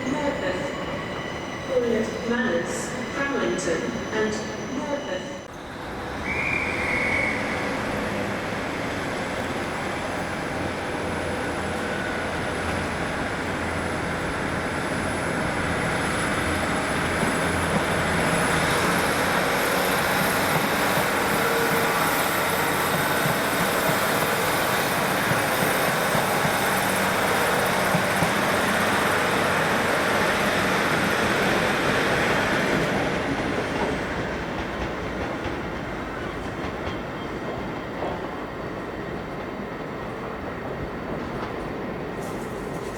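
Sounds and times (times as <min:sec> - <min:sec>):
train wheels on tracks: 0:00.0 - 0:42.9.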